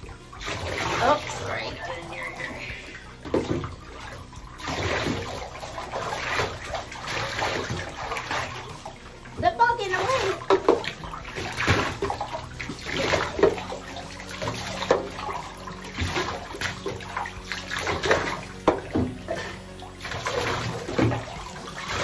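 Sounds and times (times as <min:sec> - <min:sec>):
water splashing into tub: 0:00.0 - 0:22.0.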